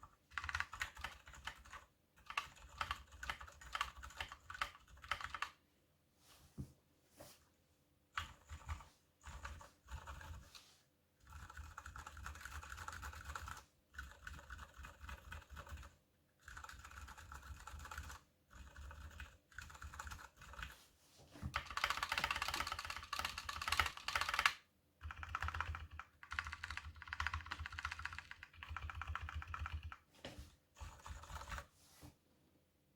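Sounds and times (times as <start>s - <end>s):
mechanical keyboard typing: 0.0s - 5.6s, 8.1s - 10.4s, 11.2s - 20.7s, 21.5s - 30.0s, 30.8s - 31.6s.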